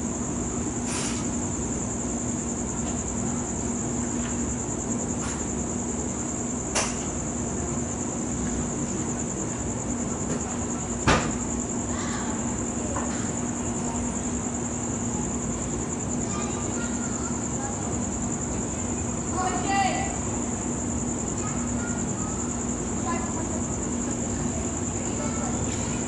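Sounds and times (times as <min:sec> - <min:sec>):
constant low hum: 0:00.0 - 0:26.0
crickets chirping: 0:00.0 - 0:26.0.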